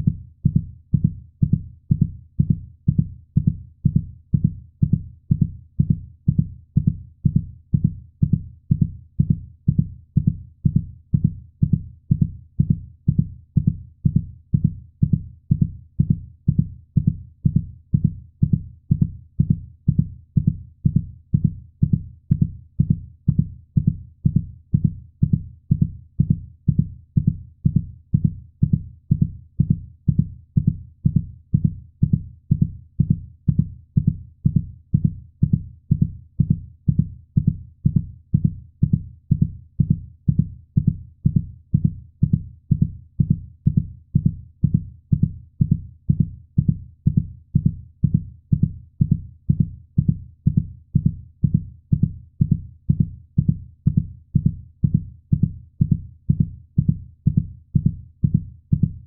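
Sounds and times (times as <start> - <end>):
heartbeat thumping: 0.0 - 59.0.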